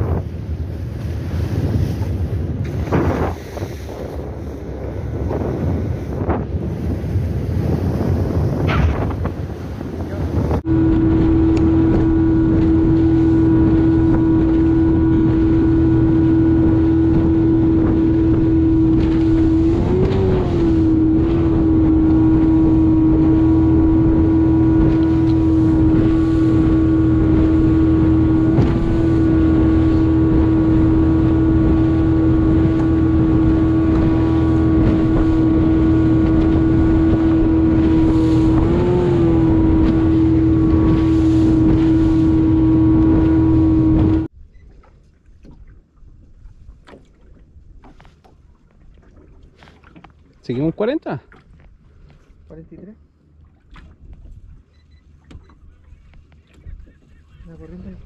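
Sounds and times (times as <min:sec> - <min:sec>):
small boat motor running: 0:09.8 - 0:58.0.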